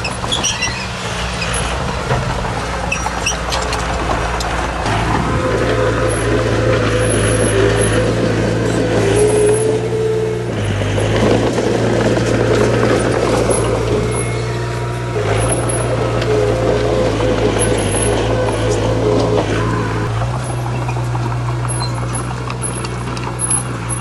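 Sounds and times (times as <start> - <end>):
heavy diesel engine running: 0.0 - 24.0
machinery rattling and clattering: 0.0 - 24.0.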